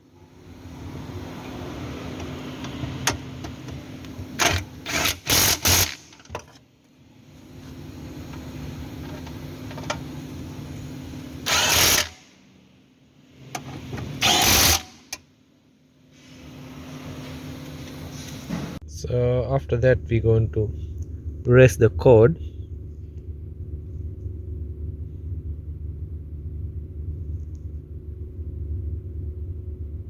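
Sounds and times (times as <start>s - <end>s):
motor hum: 0.0s - 6.5s, 7.1s - 15.2s, 16.3s - 30.0s.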